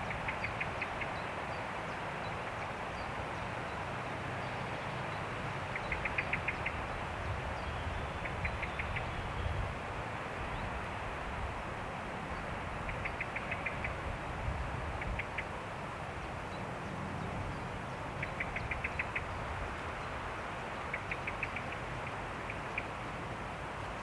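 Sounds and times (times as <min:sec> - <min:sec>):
wind in a forest: 0:00.0 - 0:24.0.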